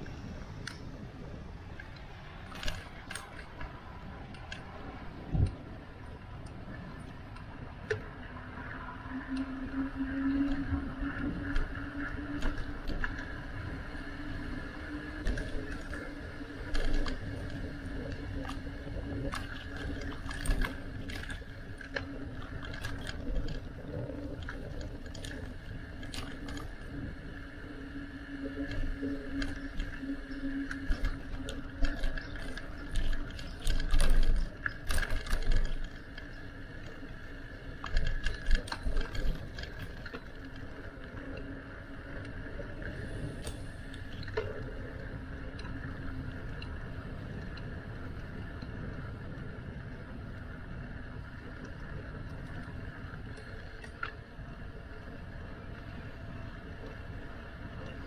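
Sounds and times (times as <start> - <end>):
bicycle rattling over bumps: 0.0 - 58.0
bicycle rolling hum: 0.0 - 58.0.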